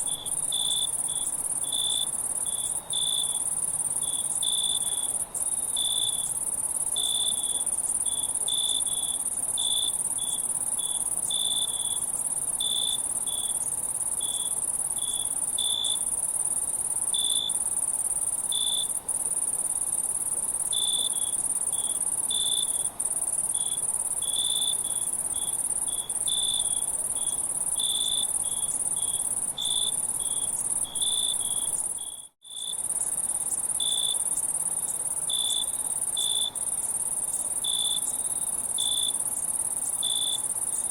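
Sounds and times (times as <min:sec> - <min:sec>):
insect chirps: 0:00.0 - 0:40.9
insects trilling: 0:00.0 - 0:40.9.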